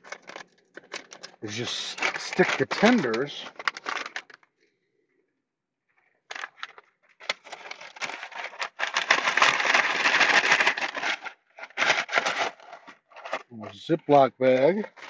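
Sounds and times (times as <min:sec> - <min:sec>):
bag crinkling and rustling: 0:00.0 - 0:04.5, 0:06.0 - 0:15.0.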